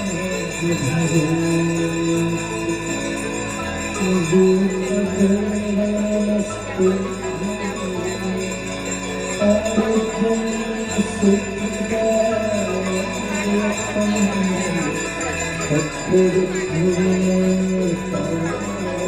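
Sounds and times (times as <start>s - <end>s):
bells and cymbals jingling: 0.0s - 19.0s
person singing: 0.0s - 19.0s.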